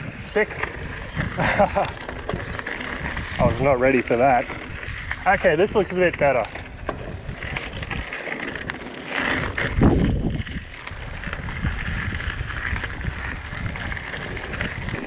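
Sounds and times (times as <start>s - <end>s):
bike tyres crunching on gravel: 0.0s - 15.0s
wind on microphone: 0.0s - 15.0s.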